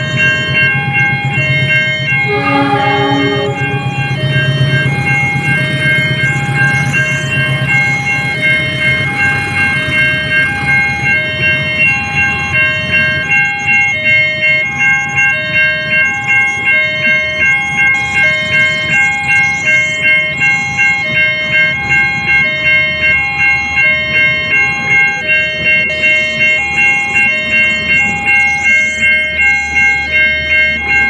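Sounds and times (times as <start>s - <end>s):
level-crossing ringing tones: 0.0s - 31.0s
two-tone siren: 0.0s - 31.0s.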